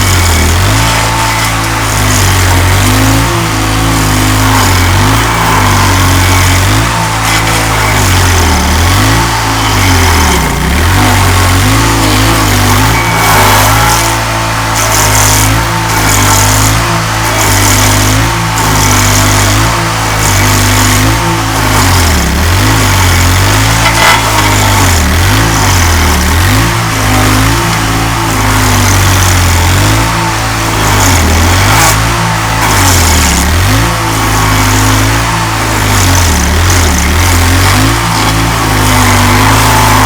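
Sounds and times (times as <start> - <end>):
hissing grinding bursts: 0.0 - 40.0
stump grinder engine running: 0.0 - 40.0.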